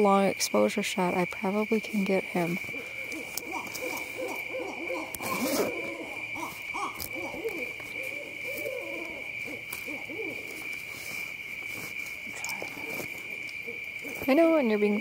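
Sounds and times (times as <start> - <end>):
high insect trill: 0.0 - 15.0
owls hooting: 2.4 - 15.0.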